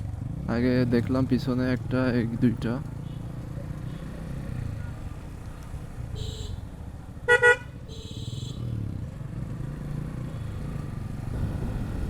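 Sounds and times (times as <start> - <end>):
motorcycle running: 0.0 - 12.0.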